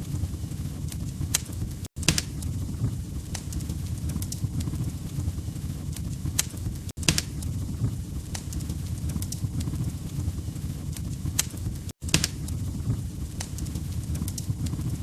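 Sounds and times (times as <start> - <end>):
log fire crackling: 0.0 - 15.0.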